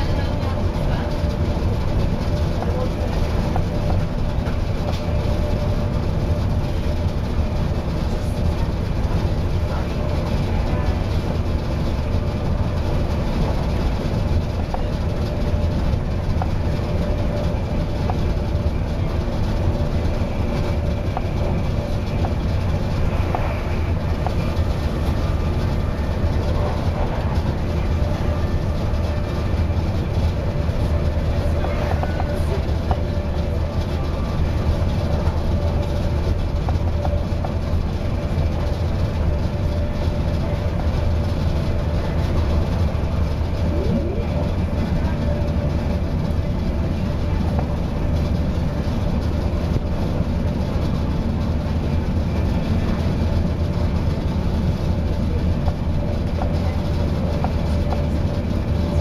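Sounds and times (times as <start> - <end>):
constant train drone: 0.0 - 59.0
train wheels rumbling on rails: 0.0 - 59.0.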